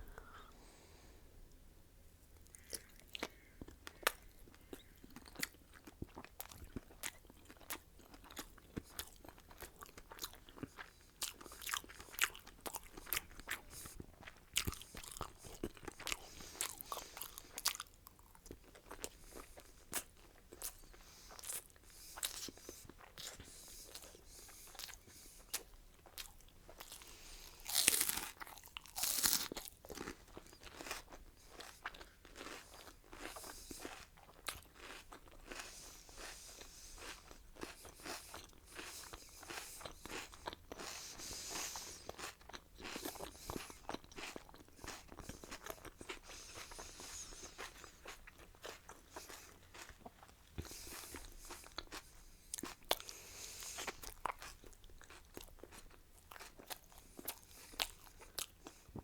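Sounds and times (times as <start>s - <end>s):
crunchy bites and chewing: 2.5s - 58.8s.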